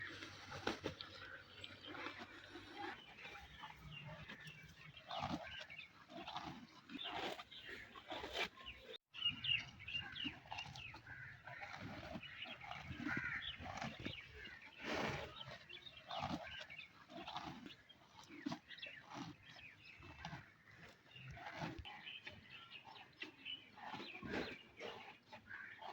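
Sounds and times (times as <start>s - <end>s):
buffalo tearing and chewing grass: 0.0s - 25.9s.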